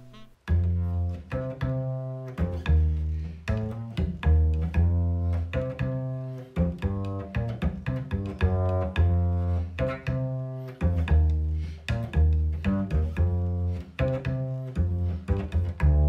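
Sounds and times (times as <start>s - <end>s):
plucked double bass: 0.0s - 16.0s.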